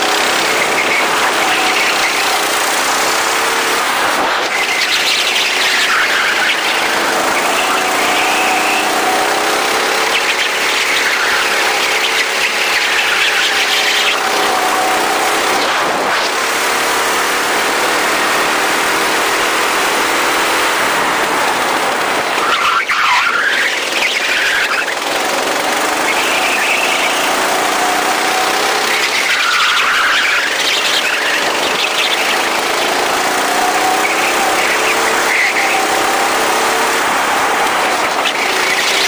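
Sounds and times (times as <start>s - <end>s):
go-kart engine running hard: 0.0s - 39.0s.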